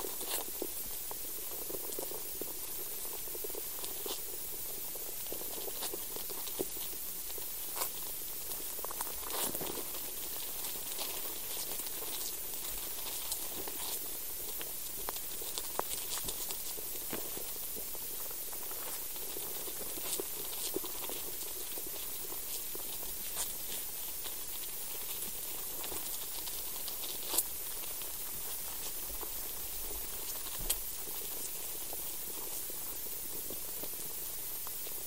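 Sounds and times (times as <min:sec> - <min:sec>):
small clicks and crackles: 0:00.0 - 0:35.0
steady hiss: 0:00.0 - 0:35.0.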